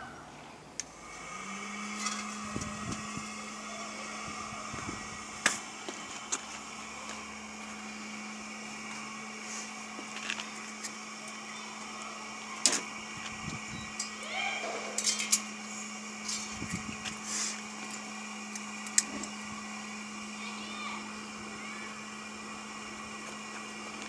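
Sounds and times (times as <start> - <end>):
electric blower humming: 0.6 - 24.0.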